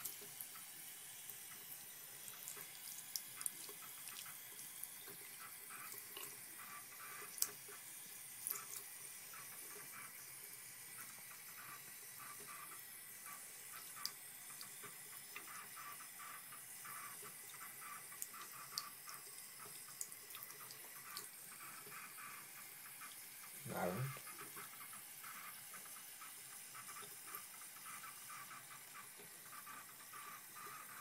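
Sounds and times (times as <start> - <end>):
bath water running and splashing: 0.0 - 31.0.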